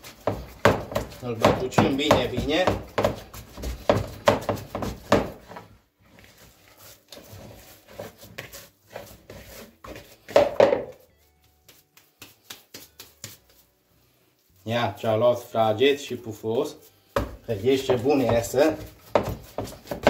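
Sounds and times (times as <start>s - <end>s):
dough squelches and thumps: 0.0s - 20.0s
hands kneading dough: 0.0s - 20.0s.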